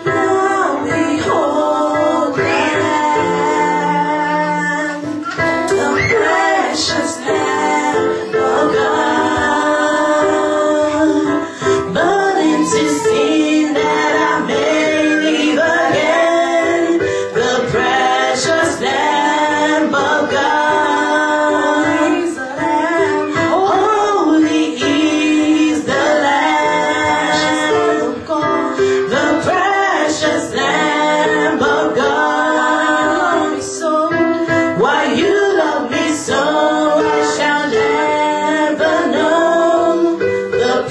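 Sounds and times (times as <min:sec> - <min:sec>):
choir voices singing: 0:00.0 - 0:40.9
held accompaniment: 0:00.0 - 0:40.9
woman singing gospel: 0:00.0 - 0:40.9.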